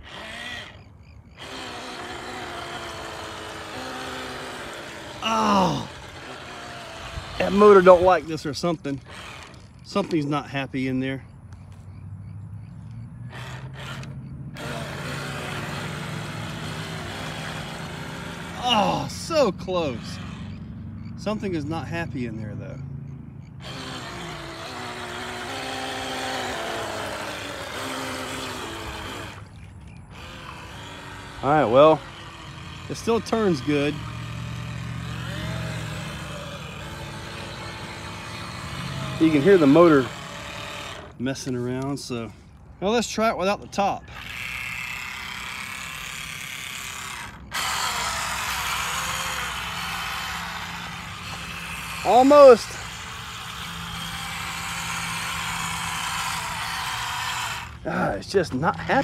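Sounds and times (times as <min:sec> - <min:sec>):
small electric motor whining: 0:00.0 - 0:10.4, 0:12.6 - 0:21.5, 0:23.4 - 0:42.4, 0:43.9 - 0:59.0.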